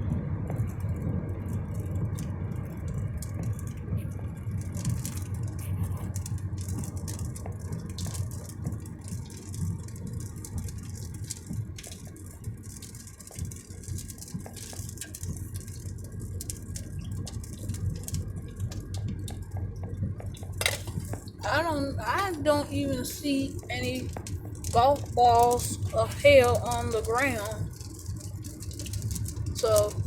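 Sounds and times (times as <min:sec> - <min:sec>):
car road and engine rumble: 0:00.0 - 0:30.0
rain ticking on car roof: 0:00.0 - 0:30.0.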